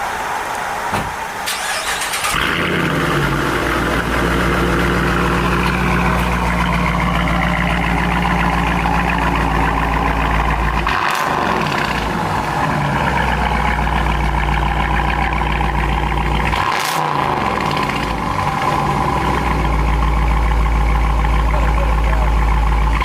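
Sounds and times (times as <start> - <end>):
car engine idling: 0.0 - 23.0
car engine cranking: 1.4 - 23.0.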